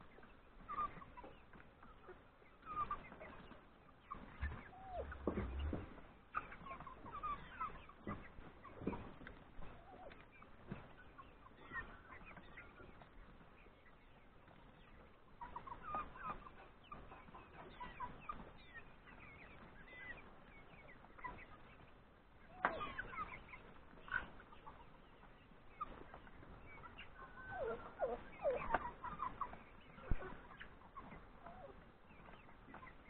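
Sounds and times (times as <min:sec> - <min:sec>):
chicken calls: 0:00.0 - 0:33.0
chickens clucking: 0:00.0 - 0:33.0.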